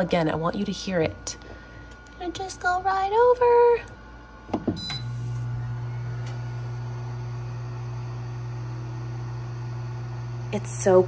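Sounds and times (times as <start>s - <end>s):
oven fan humming: 0.0s - 11.0s.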